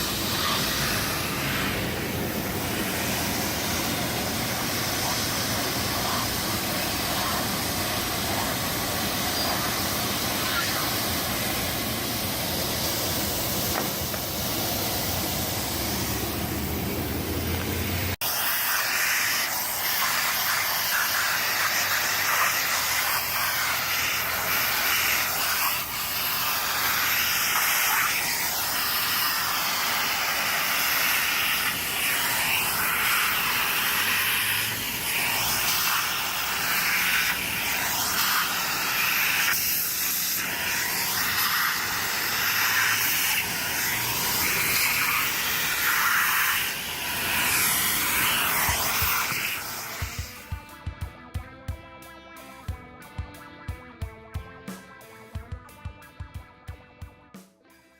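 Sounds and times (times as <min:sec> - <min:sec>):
car wash machinery hissing: 0:00.0 - 0:50.5.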